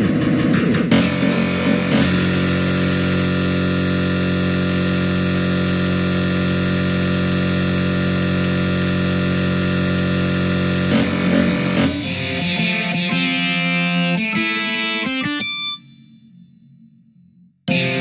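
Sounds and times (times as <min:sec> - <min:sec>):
dense synthesizer note cluster: 0:00.0 - 0:08.7, 0:09.4 - 0:18.0.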